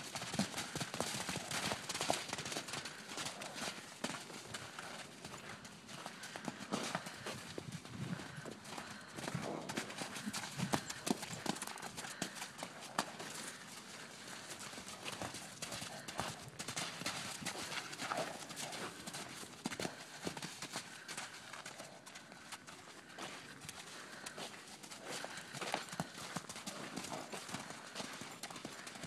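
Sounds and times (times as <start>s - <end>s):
horse hoofbeats on dirt: 0.0s - 29.0s.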